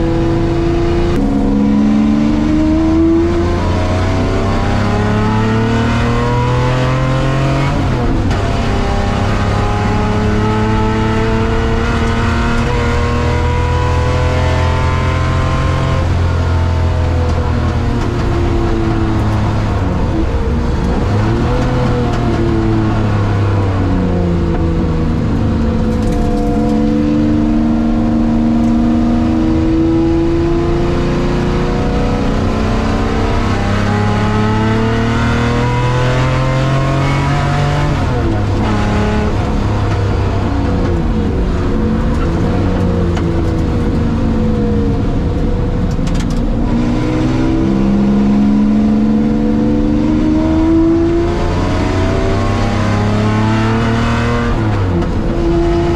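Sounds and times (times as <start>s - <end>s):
race car engine at full speed: 0.0s - 55.9s.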